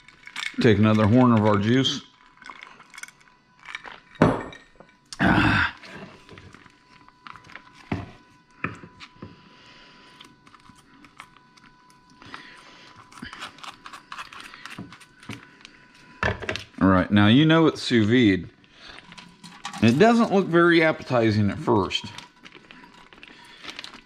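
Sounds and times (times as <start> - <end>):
faint steady whine: 0.0 - 24.0.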